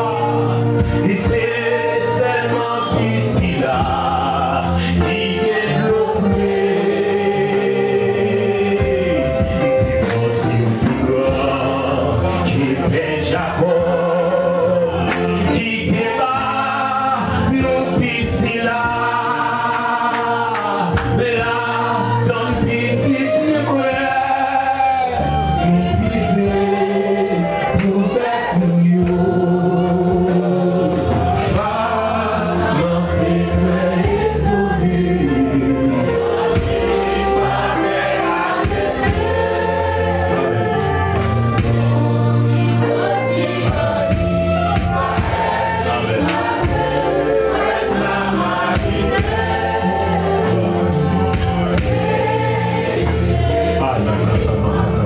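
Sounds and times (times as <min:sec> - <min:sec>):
choir singing gospel: 0:00.0 - 0:55.0.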